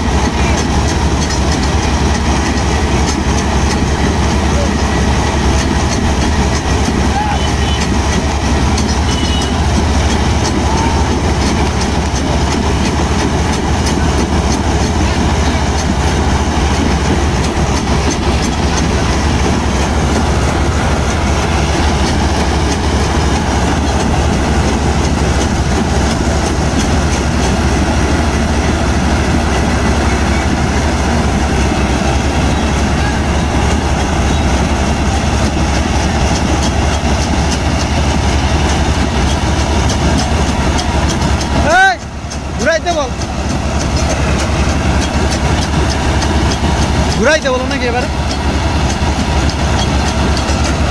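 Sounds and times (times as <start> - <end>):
tractor diesel engines under load: 0.0 - 50.9
tyres spinning in dirt: 0.0 - 50.9.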